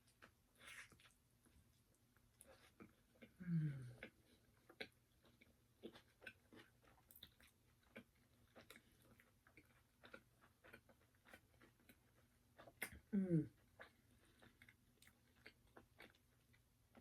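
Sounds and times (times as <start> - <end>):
person chewing crunchy food: 0.0 - 1.6, 2.3 - 17.0.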